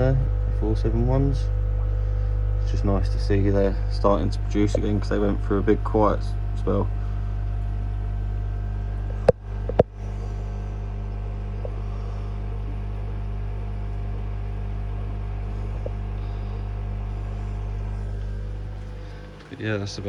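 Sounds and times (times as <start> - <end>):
equipment humming: 0.0 - 20.0.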